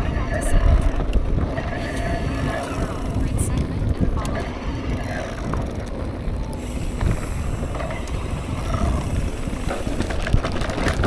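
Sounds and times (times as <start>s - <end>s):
bike rolling rumble: 0.0s - 11.0s
wind buffeting microphone: 0.0s - 11.0s.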